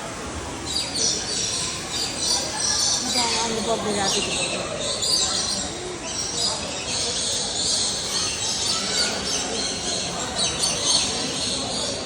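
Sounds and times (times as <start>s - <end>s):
many birds chirping and squawking: 0.6s - 12.0s.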